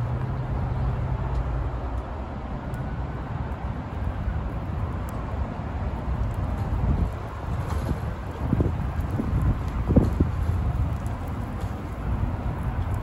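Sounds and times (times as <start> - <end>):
raindrops on pavement: 0.0 - 13.0
vehicle hum: 0.0 - 13.0
wind rumble on microphone: 0.0 - 13.0.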